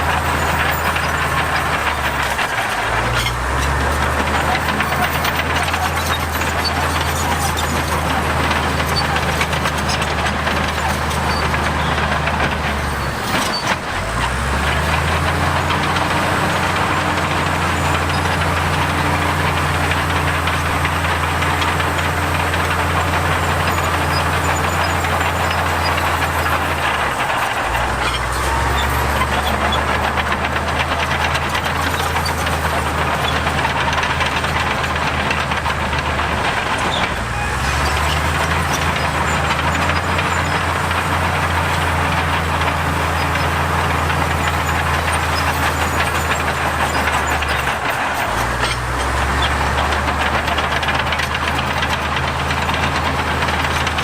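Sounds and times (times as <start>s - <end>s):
diesel engine of heavy machine: 0.0s - 54.0s.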